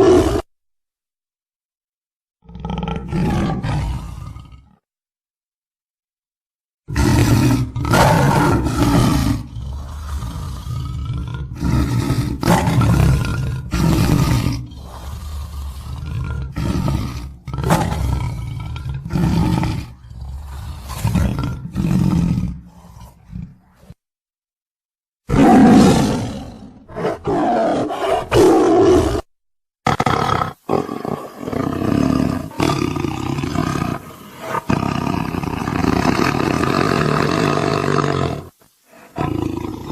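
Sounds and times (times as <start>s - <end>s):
tiger roaring and growling: 0.0s - 0.5s, 2.4s - 4.8s, 6.9s - 24.0s, 25.2s - 39.9s.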